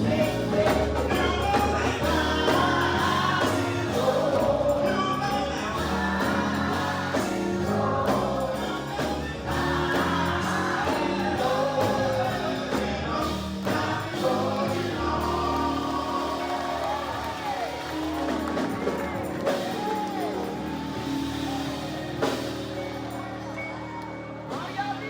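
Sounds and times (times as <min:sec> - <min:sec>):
gospel choir singing: 0:00.0 - 0:25.0.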